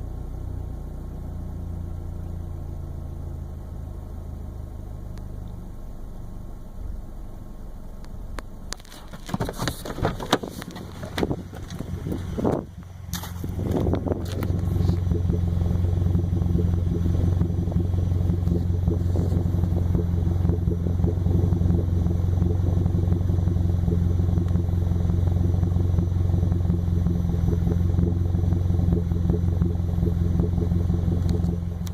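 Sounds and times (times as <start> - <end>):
car engine idling roughly: 0.0 - 31.9.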